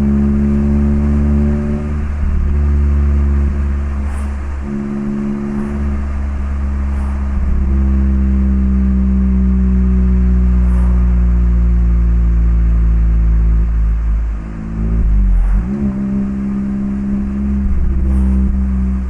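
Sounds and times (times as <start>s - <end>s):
car engine cruising drone: 0.0s - 19.0s.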